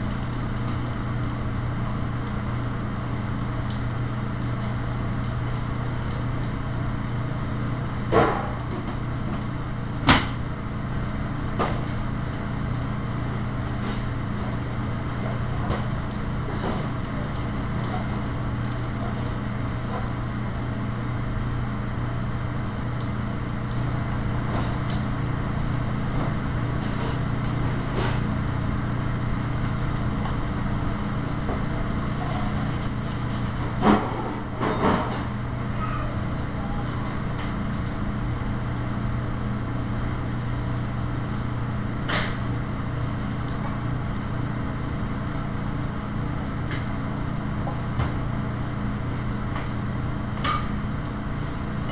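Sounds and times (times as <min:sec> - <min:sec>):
exhaust fan drone: 0:00.0 - 0:51.9.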